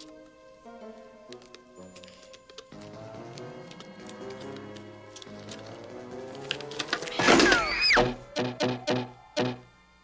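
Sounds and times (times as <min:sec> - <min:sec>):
orchestral film music: 0:00.0 - 0:10.0.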